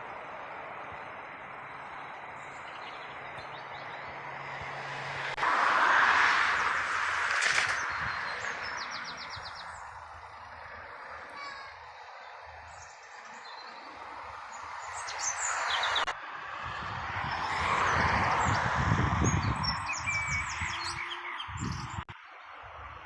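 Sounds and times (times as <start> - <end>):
small birds chirping: 0.0 - 5.3, 6.5 - 23.0
broad rushing noise: 0.0 - 21.1.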